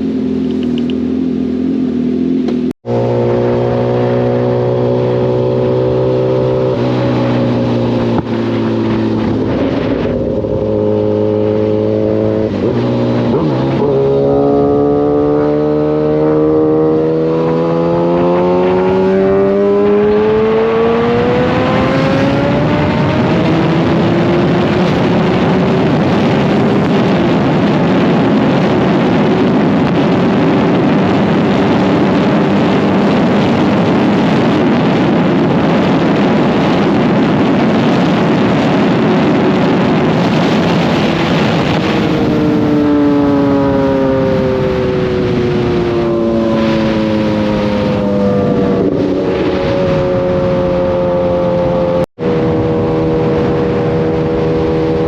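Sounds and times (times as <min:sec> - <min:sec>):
motorcycle engine accelerating hard: 0:00.0 - 0:55.0
wind rushing: 0:02.8 - 0:55.0.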